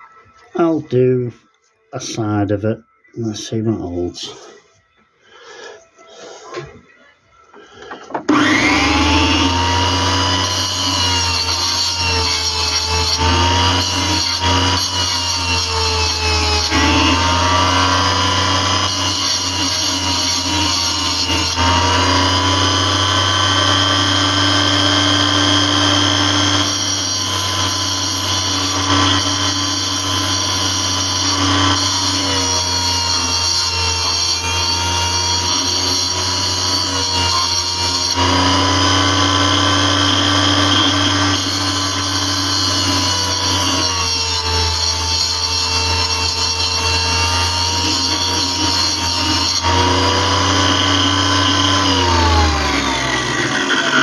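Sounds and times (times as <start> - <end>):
power tool cutting stone: 8.1 - 54.0.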